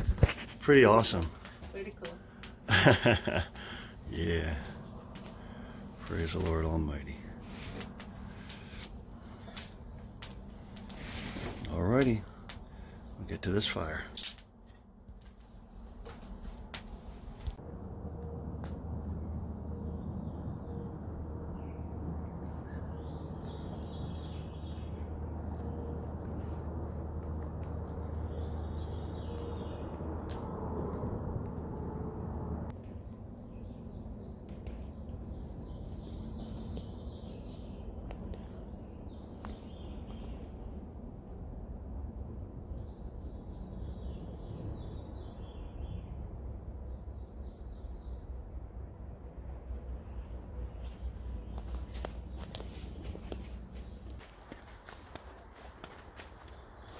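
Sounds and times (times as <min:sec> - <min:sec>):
small birds chirping: 0:00.0 - 0:17.6, 0:19.0 - 0:32.0, 0:32.7 - 0:41.4, 0:42.6 - 0:56.9
songbird singing: 0:00.0 - 0:41.4, 0:42.5 - 0:56.9
steady low rumble: 0:00.0 - 0:56.9
low rushing background noise: 0:00.3 - 0:56.9.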